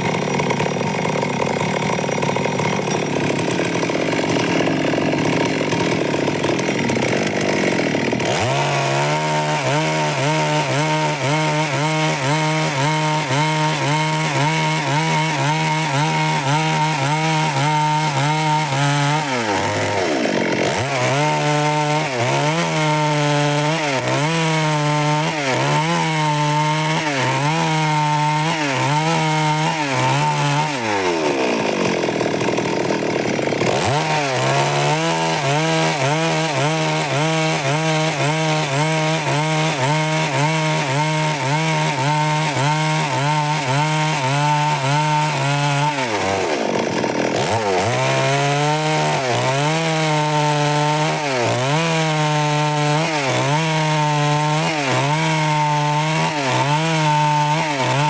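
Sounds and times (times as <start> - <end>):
chainsaw sawing wood: 0.0 - 58.0.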